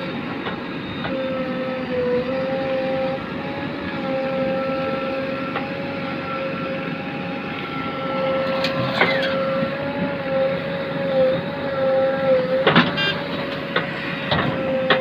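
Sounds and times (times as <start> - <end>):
backhoe engine with high whine: 0.0 - 15.0.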